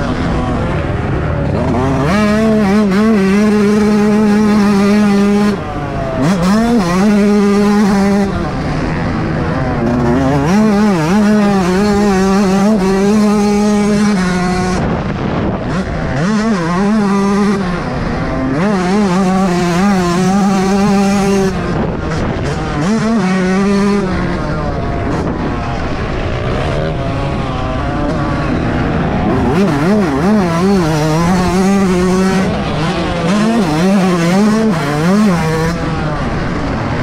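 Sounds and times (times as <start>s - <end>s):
motocross engine at high revs: 0.0s - 37.0s.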